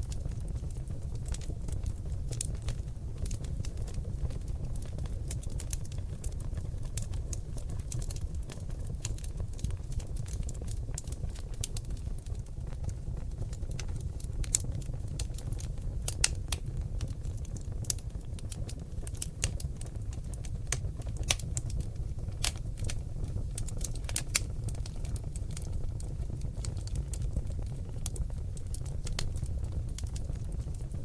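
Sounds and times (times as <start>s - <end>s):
log fire crackling: 0.0s - 31.0s.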